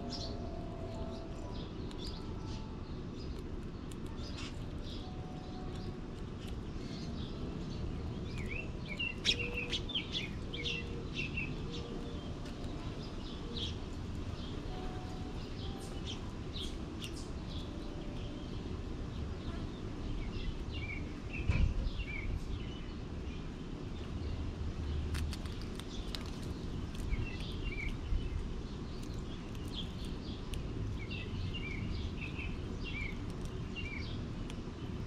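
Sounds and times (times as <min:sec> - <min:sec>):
low background noise: 0:00.0 - 0:35.0
small birds chirping: 0:00.0 - 0:35.0.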